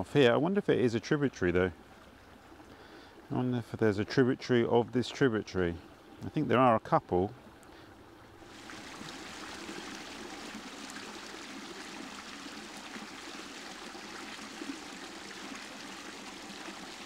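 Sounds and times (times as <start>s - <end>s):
stream gurgling over stones: 0.0s - 17.0s.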